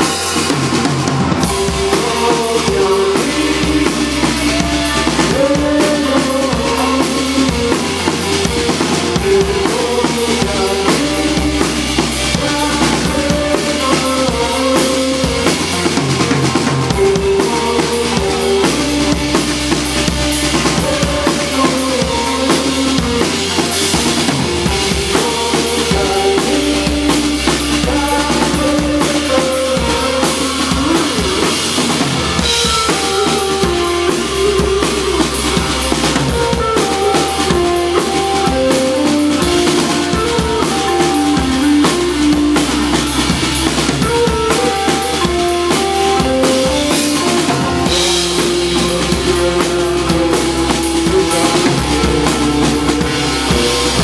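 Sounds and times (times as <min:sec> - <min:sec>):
bass guitar notes: 0:00.0 - 0:54.0
drum kit beat: 0:00.0 - 0:54.0
electric guitar: 0:00.0 - 0:54.0.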